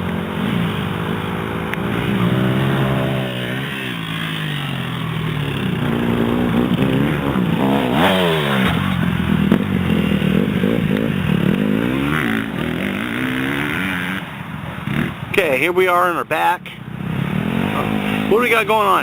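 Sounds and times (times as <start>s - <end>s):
dirt bike engine revving: 0.0s - 16.1s, 16.8s - 19.0s.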